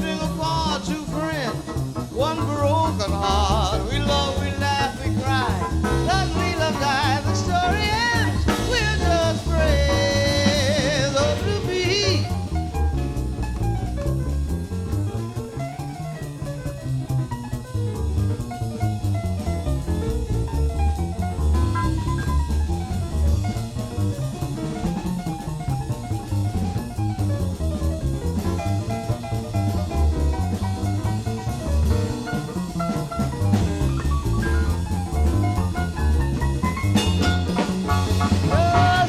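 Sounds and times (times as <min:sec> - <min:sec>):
jazz trio playing: 0:00.0 - 0:39.0.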